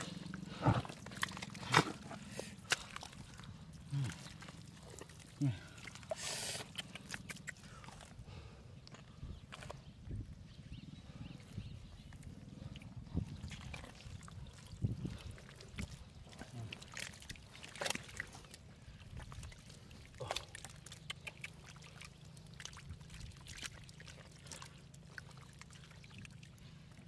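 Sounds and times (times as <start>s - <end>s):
splashes and squelches: 0.0s - 10.0s, 11.5s - 27.0s
mud and water sloshing: 0.0s - 27.0s.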